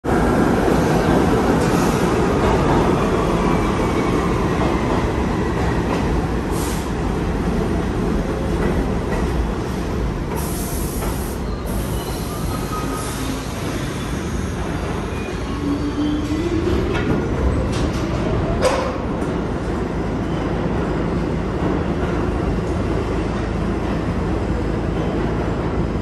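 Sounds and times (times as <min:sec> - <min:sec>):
subway train wheels rumbling: 0:00.0 - 0:26.0.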